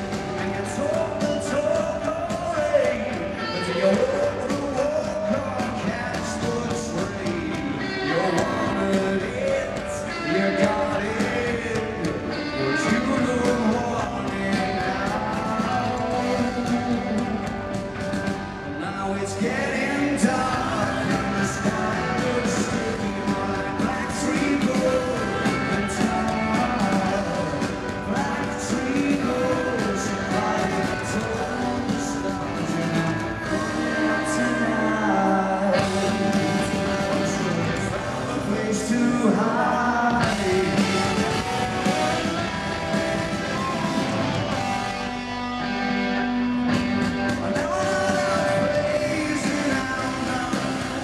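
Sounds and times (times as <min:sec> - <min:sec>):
bass guitar: 0:00.0 - 0:51.0
drum kit: 0:00.0 - 0:51.0
electric guitars: 0:00.0 - 0:51.0
person singing lead vocal: 0:00.0 - 0:51.0.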